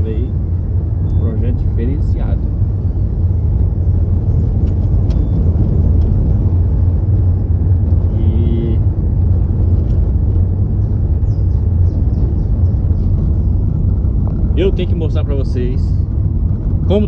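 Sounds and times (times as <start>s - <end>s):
car rumbling on the move: 0.0s - 17.0s.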